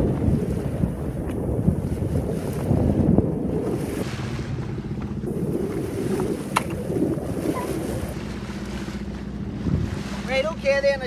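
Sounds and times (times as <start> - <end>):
boat engine hum: 0.0 - 11.0
water washing past hull: 0.0 - 11.0
wind buffeting microphone: 0.0 - 11.0.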